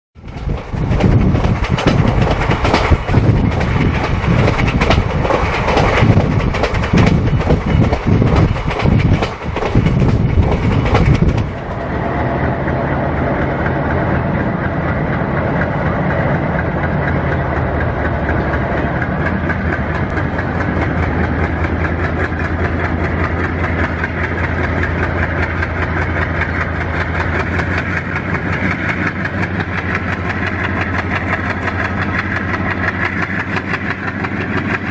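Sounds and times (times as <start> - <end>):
diesel locomotive engine humming: 0.2 - 34.9
train rushing and rattling: 0.2 - 34.9.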